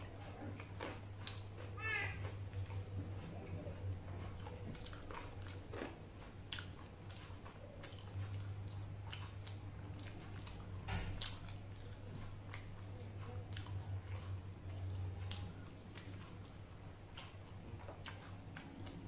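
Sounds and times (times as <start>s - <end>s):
chewing soft wet food: 0.0s - 19.0s
low steady hum: 0.0s - 19.0s.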